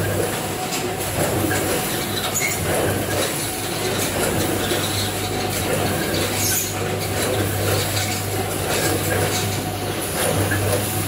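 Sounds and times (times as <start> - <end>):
packing machine humming: 0.0 - 11.0
light mechanical clatter: 0.2 - 10.9.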